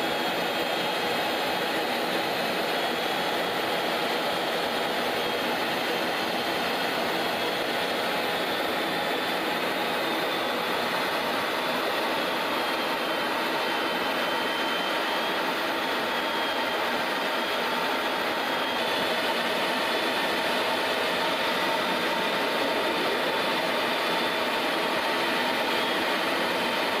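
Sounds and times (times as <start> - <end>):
aircraft cabin drone: 0.0 - 27.0.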